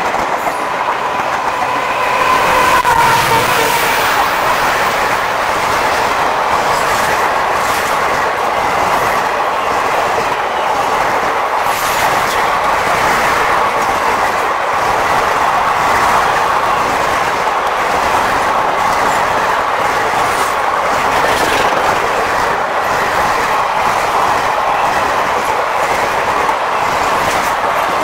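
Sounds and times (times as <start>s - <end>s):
train wheels rushing on rail: 0.0s - 28.0s.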